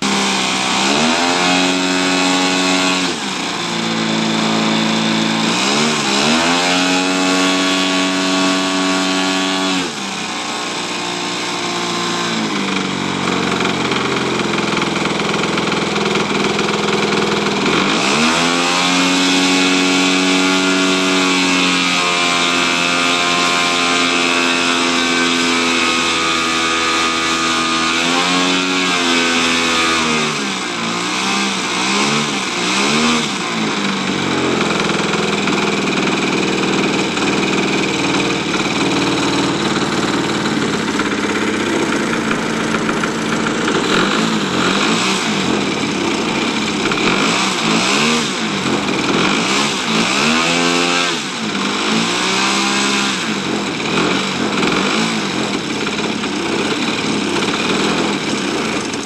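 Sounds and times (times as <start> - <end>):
model airplane engine revving: 0.0 - 59.0.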